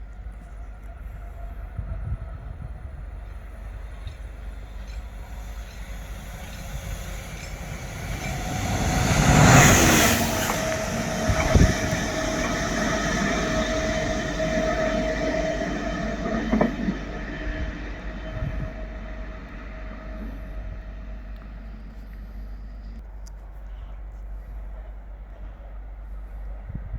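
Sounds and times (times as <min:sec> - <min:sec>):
train passing: 0:00.0 - 0:26.8
steady whine: 0:00.7 - 0:23.0.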